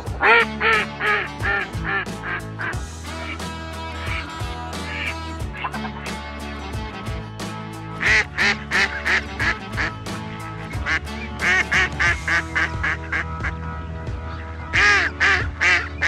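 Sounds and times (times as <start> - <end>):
duck quacking: 0.0 - 6.2, 8.0 - 16.0
background music: 0.0 - 16.0.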